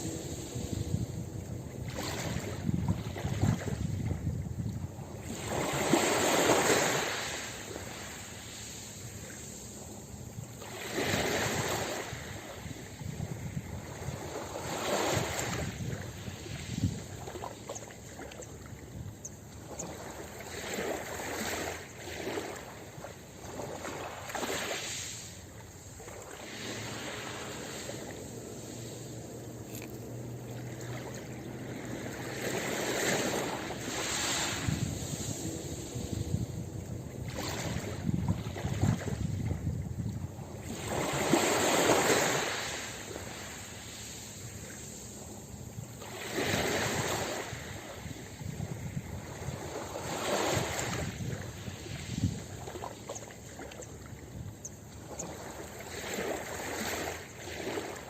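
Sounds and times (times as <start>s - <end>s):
ocean surf breaking on beach: 0.0s - 17.6s, 19.8s - 53.0s.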